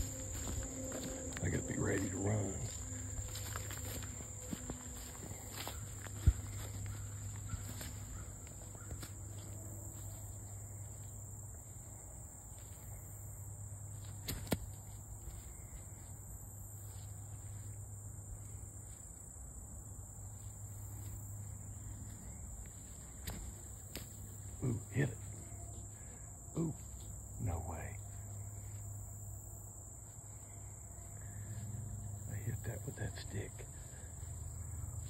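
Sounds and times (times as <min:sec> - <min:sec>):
insects chirring: 0:00.0 - 0:35.0
low steady hum: 0:00.0 - 0:35.0.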